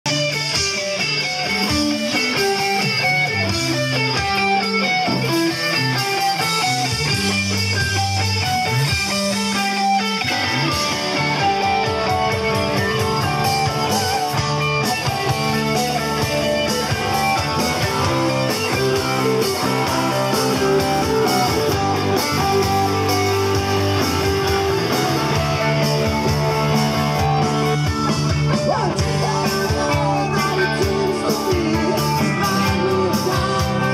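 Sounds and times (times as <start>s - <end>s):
bass guitar: 0.0s - 33.9s
electric guitar: 0.0s - 33.9s
drum kit: 0.1s - 33.9s.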